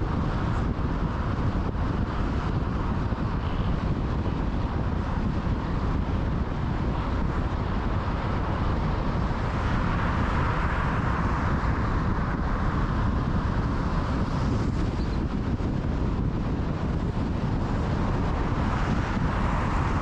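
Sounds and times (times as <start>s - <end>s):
tyre and engine rumble: 0.0s - 20.0s
wind buffeting microphone: 0.0s - 20.0s.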